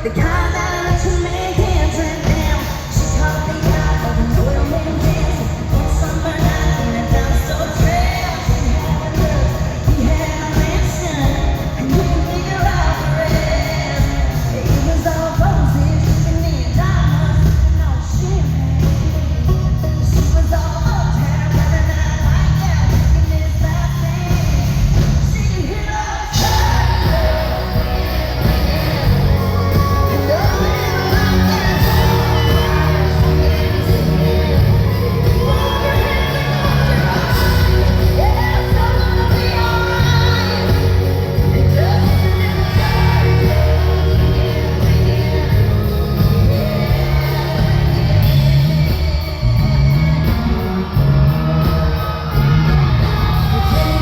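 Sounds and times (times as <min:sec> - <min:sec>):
live country-rock band: 0:00.0 - 0:54.0
steady drum beat: 0:00.0 - 0:54.0
woman singing: 0:00.0 - 0:54.0.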